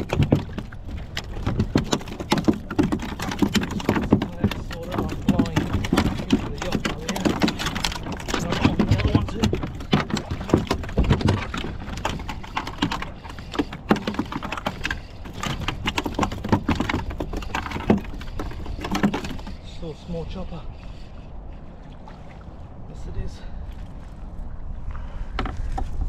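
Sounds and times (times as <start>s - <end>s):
water splashing against kayak: 0.0s - 22.8s.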